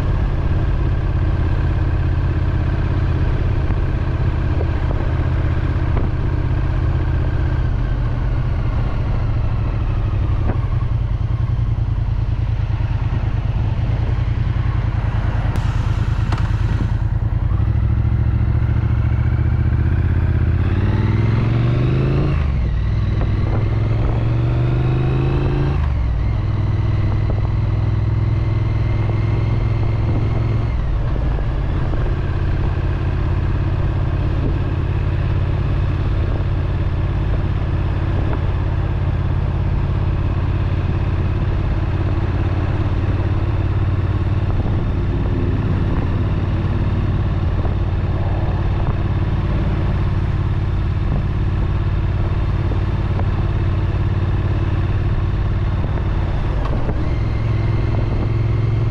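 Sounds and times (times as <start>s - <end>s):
motorcycle engine and exhaust: 0.0s - 58.9s.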